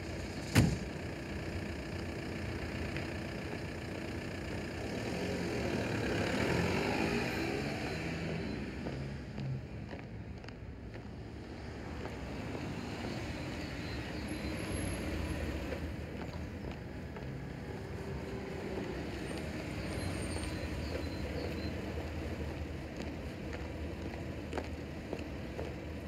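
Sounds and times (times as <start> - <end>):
distant road traffic rumble: 0.0 - 26.0.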